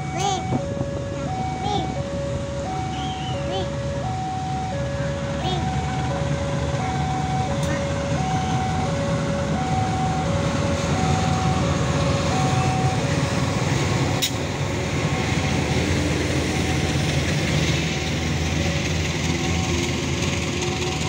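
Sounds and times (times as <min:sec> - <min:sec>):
locomotive engine drone: 0:00.0 - 0:21.0.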